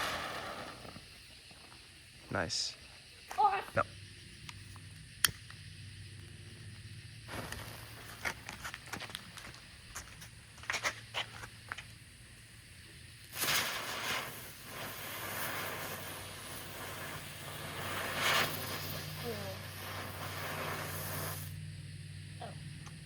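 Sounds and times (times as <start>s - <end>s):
small fireworks crackling: 0.0s - 23.0s
steady hiss: 0.0s - 23.0s.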